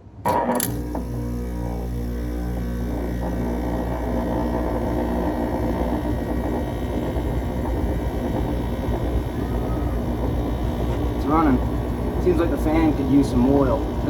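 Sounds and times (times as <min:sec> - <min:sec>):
air conditioner fan rushing: 0:00.0 - 0:14.0
low motor hum: 0:00.0 - 0:14.0.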